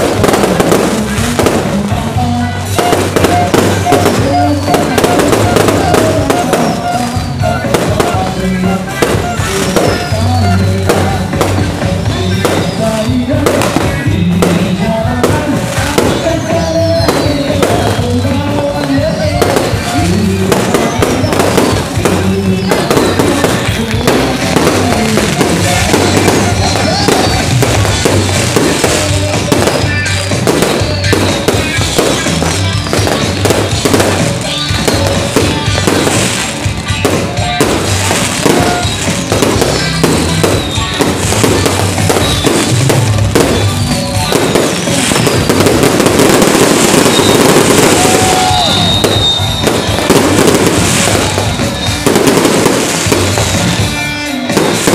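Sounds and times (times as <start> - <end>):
fireworks bursting and crackling: 0.0 - 54.9
loud music playing: 0.0 - 54.9.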